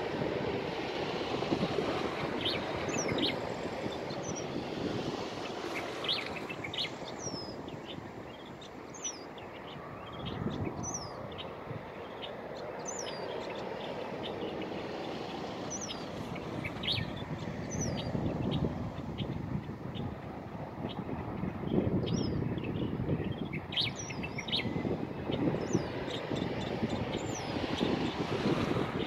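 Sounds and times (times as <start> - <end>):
distant traffic: 0.0 - 29.0
wind: 0.0 - 29.0.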